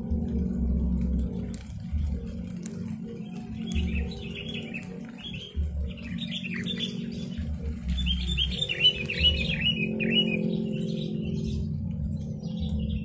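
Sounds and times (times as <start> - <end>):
birds chattering: 0.0 - 13.0
low hum: 0.0 - 13.0.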